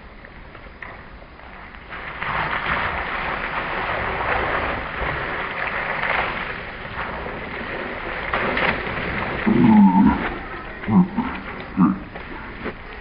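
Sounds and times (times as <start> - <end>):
water spraying from sprinkler jets: 0.0 - 13.0
splashing on wet plastic sheet: 1.9 - 13.0.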